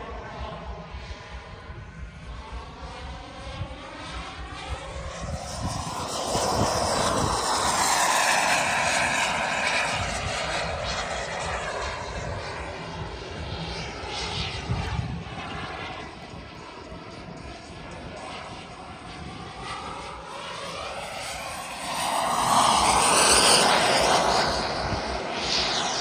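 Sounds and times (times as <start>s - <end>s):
model jet turbine rushing: 0.0s - 26.0s.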